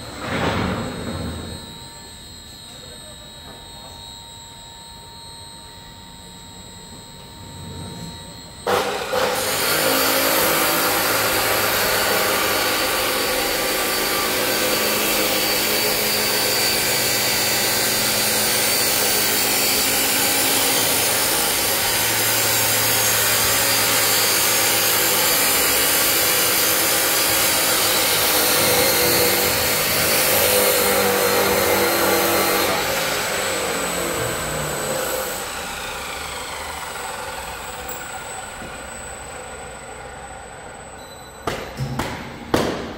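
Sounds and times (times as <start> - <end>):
electric stirrer motor running: 1.6 - 40.0.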